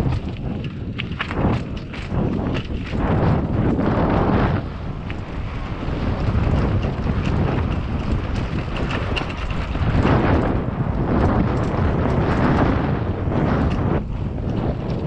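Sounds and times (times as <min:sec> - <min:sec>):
bike rattling over bumps: 0:00.0 - 0:15.0
bike tyres crunching on dirt: 0:00.0 - 0:15.0
wind buffeting microphone: 0:00.0 - 0:15.0.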